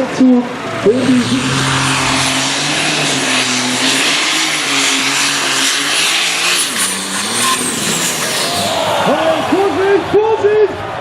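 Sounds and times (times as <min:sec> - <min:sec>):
tractor engine at high revs: 0:00.0 - 0:10.0
loud rushing noise: 0:00.5 - 0:11.0.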